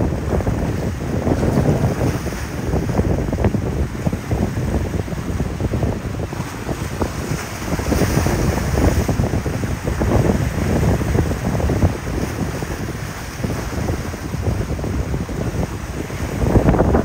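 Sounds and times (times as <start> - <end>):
waves and surf: 0.0 - 17.0
wind buffeting microphone: 0.0 - 17.0.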